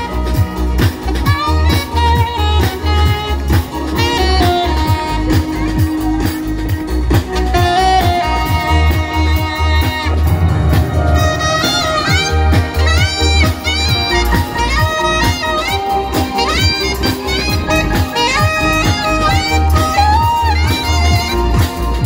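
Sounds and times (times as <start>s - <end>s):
alto saxophone melody: 0.0s - 22.0s
drum kit and percussion: 0.0s - 22.0s
electric bass: 0.0s - 22.0s.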